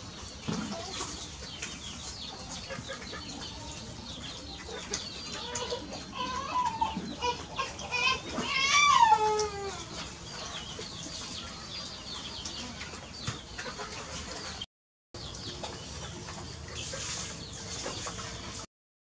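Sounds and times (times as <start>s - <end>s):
birds chirping and clucking: 0.0s - 18.7s.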